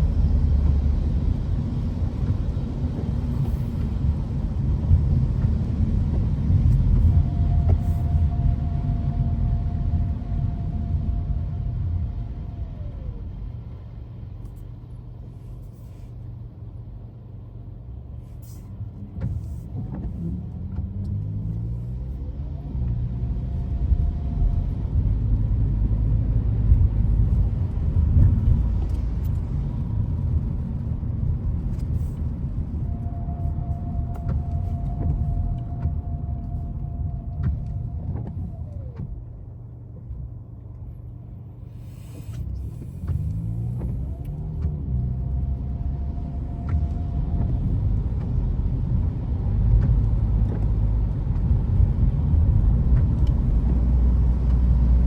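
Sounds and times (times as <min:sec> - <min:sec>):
car engine rumble: 0:00.0 - 0:55.0
road noise: 0:00.0 - 0:55.0.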